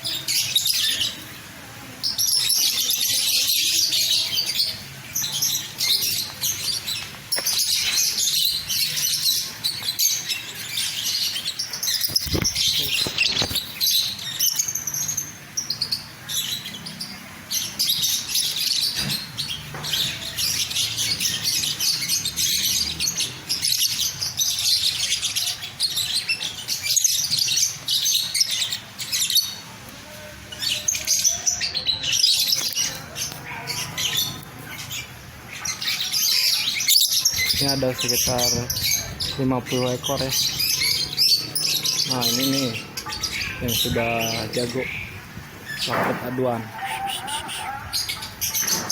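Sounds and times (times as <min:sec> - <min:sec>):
birds chirping and chattering: 0:00.0 - 0:48.9.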